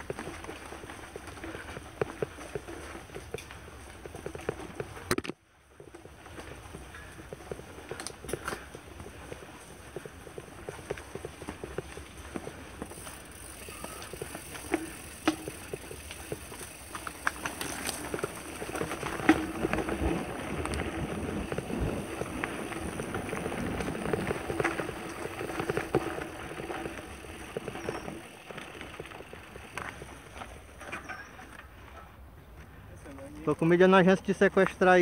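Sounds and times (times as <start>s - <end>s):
bike clicking and rattling: 0.0s - 32.2s
bike tyres on dirt: 0.0s - 35.0s.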